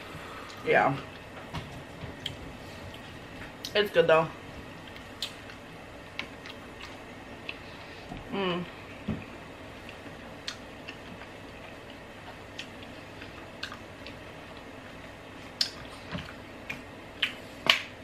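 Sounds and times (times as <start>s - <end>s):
person chewing food: 1.9s - 3.7s, 4.7s - 17.7s.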